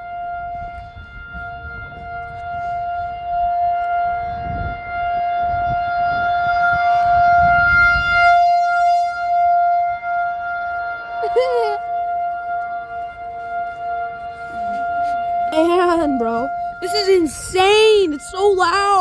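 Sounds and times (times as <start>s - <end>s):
tornado warning siren: 0.0s - 19.0s.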